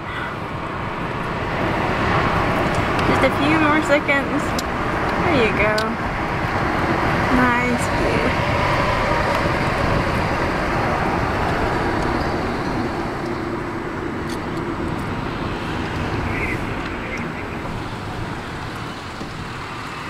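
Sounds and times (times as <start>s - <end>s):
road and wind noise in car: 0.0s - 20.0s.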